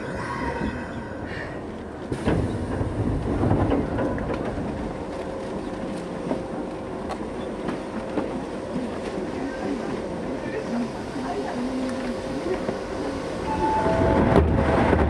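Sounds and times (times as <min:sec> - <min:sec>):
steady train hum: 0:00.0 - 0:15.0
train rumble: 0:00.0 - 0:15.0.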